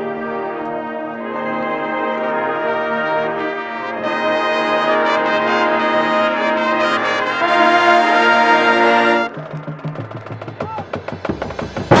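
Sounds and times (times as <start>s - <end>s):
brass section playing chords: 0.0s - 9.9s.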